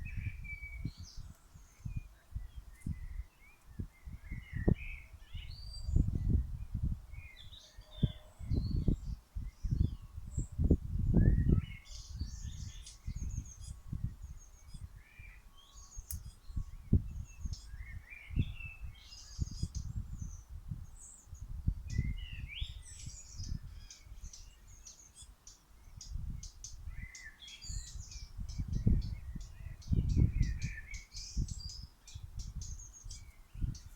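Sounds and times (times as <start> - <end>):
songbirds singing and chirping: 0.0 - 33.9
wind rumbling on microphone: 0.0 - 33.9.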